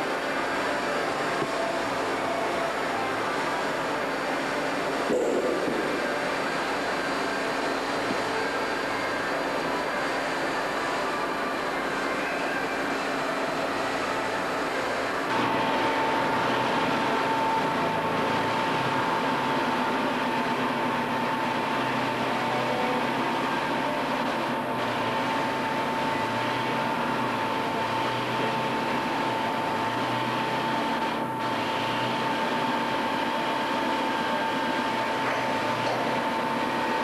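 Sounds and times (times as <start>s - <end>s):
factory machinery running: 0.0s - 37.0s
steady high whine: 0.0s - 37.0s.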